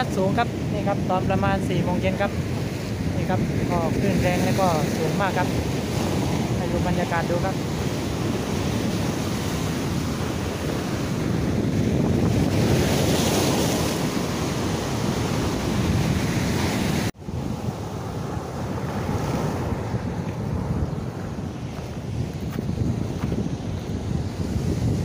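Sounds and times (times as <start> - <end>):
heavy waves breaking on rocks: 0.0 - 25.0
wind buffeting microphone: 0.0 - 25.0.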